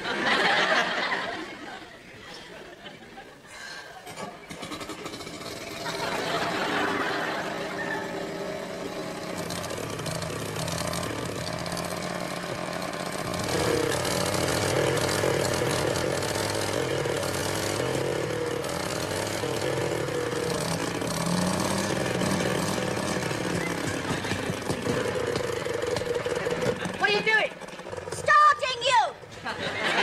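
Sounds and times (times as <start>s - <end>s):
rotavator engine running: 4.0s - 30.0s.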